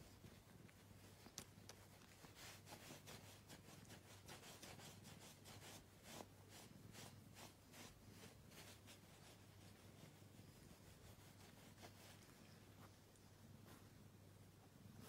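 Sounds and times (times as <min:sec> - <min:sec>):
hand rubbing cat fur: 0:00.0 - 0:15.0
low steady hum: 0:00.0 - 0:15.0.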